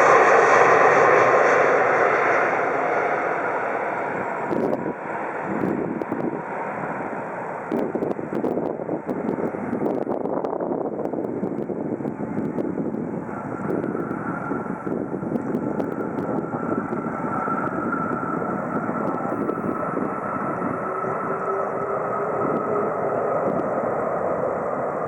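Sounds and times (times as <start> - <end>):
jet engine roar: 0.0 - 25.0
low hum: 0.0 - 25.0
thin engine whine: 0.0 - 25.0.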